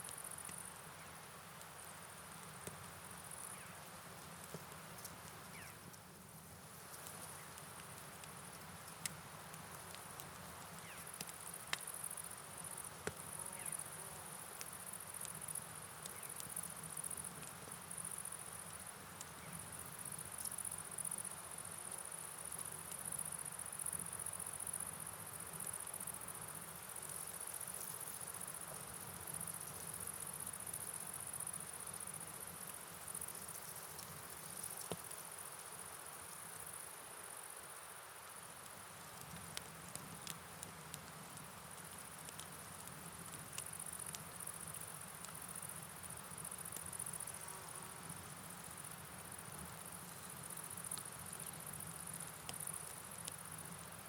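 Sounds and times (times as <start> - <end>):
cricket chorus: 0.0 - 4.3, 5.0 - 6.0, 9.6 - 54.0.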